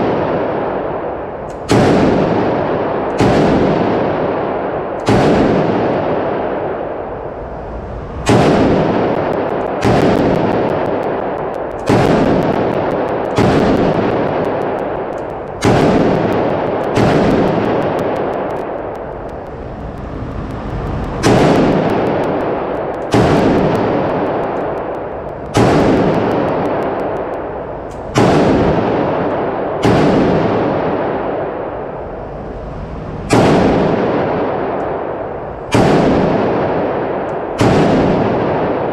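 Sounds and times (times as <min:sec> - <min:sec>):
rifle shots echoing indoors: 0:00.0 - 0:32.2, 0:33.1 - 0:38.9.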